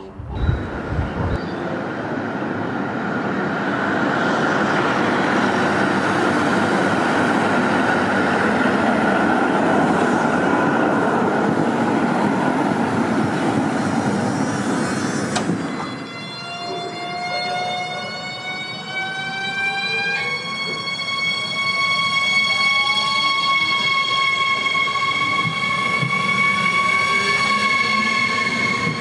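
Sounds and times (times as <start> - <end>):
tram wheels rumbling: 0.0 - 29.0.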